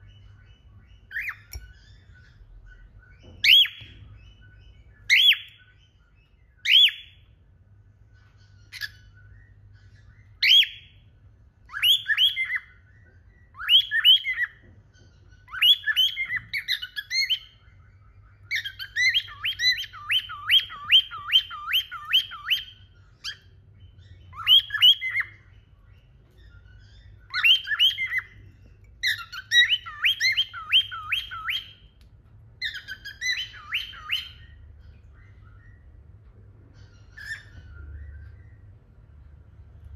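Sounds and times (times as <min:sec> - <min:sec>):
cockatiels chirping and whistling: 0:00.0 - 0:38.8.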